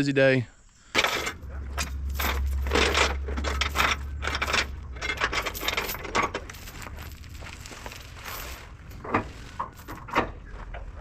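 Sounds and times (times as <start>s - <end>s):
low steady hum: 0.6s - 11.0s
metallic clinking and scraping: 1.0s - 10.9s.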